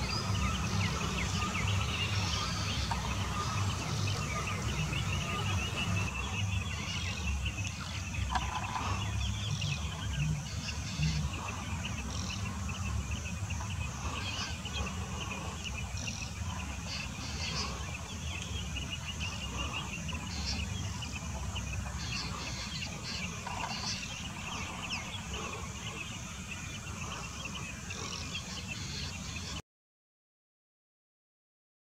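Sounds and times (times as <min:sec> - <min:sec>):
birds chirping: 0:00.0 - 0:29.6
steady low rumble: 0:00.0 - 0:29.6.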